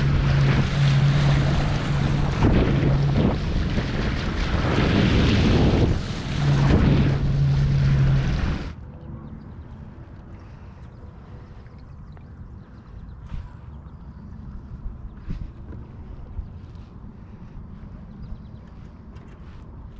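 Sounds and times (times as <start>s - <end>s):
water splashing past hulls: 0.0s - 16.5s
steady low hum: 0.0s - 19.9s
wind buffeting microphone: 0.0s - 19.9s.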